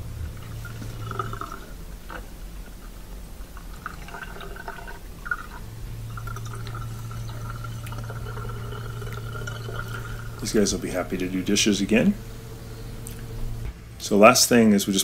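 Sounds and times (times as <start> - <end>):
steady low hum: 0.0 - 15.0
water draining into sink: 0.3 - 13.6.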